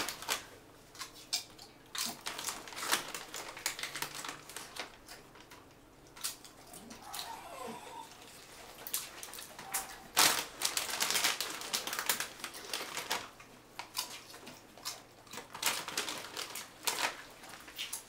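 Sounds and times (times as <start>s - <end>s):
foil bag crinkling: 0.0s - 1.1s, 1.9s - 5.6s, 6.2s - 18.0s
dog crunching chips: 0.0s - 18.0s.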